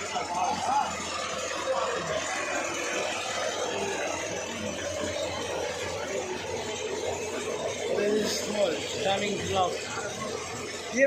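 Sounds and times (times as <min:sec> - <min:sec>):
vehicle engine noise: 0:00.0 - 0:11.0.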